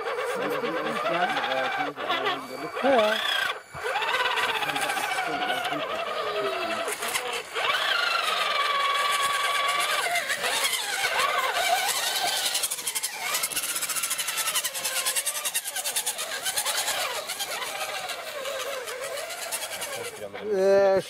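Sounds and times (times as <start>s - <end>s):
toy truck motor and gears whining: 0.0s - 21.0s.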